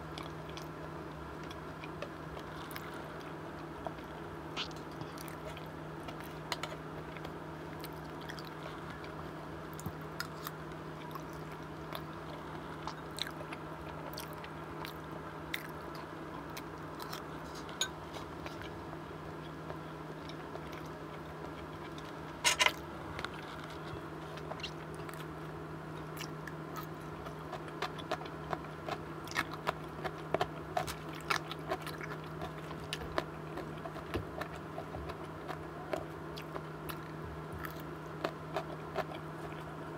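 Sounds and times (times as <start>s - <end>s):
steady low hum: 0.0s - 39.9s
person chewing food: 0.1s - 39.8s.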